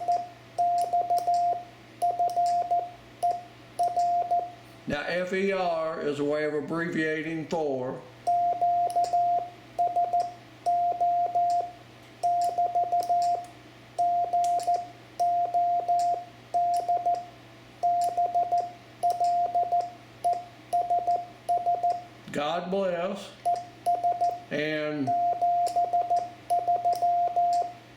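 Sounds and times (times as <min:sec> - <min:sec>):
morse code beeps: 0:00.0 - 0:04.6, 0:08.3 - 0:22.1, 0:23.5 - 0:27.8
faint low hum: 0:00.0 - 0:27.9.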